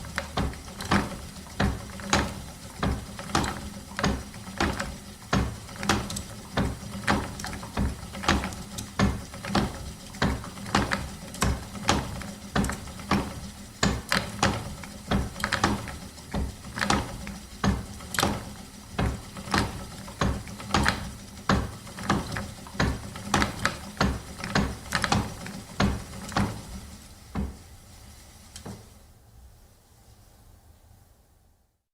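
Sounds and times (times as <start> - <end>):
wooden spinning wheel turning: 0.0 - 29.0.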